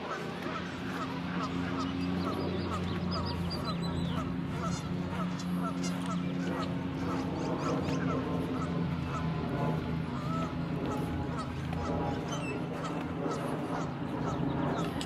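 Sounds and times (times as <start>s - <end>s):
geese honking: 0.0s - 15.0s
low hum: 0.0s - 15.0s.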